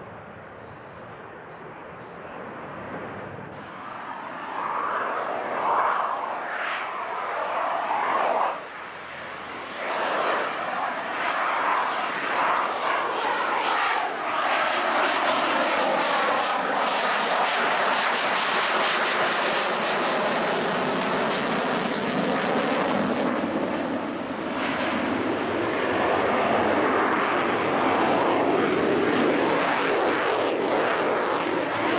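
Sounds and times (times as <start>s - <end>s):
jet engine roaring: 0.0s - 31.9s.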